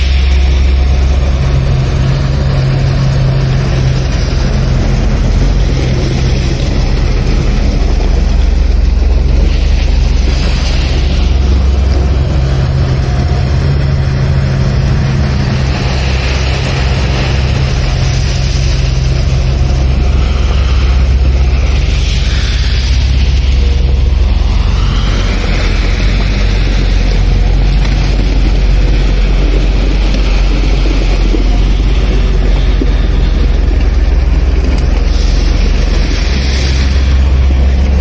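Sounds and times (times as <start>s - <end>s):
crushed stone pouring rush: 0.0s - 38.0s
diesel truck engine running: 0.0s - 38.0s.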